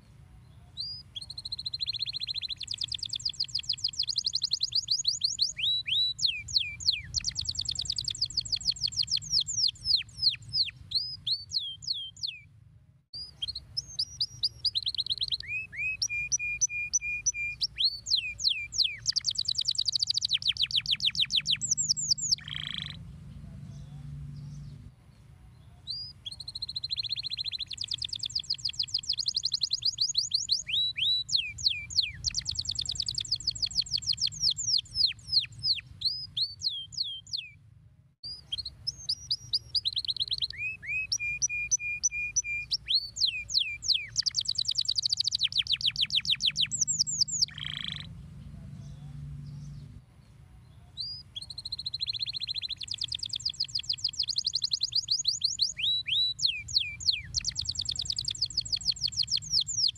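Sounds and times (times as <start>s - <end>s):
canary singing trills: 0.0s - 12.5s, 13.2s - 24.9s, 25.6s - 37.6s, 38.2s - 50.0s, 50.6s - 59.9s.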